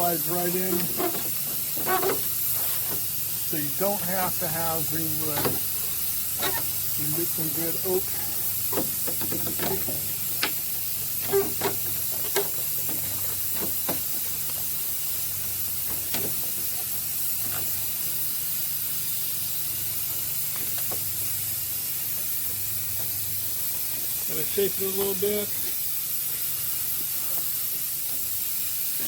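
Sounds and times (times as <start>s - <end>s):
steam hissing: 0.0s - 29.0s.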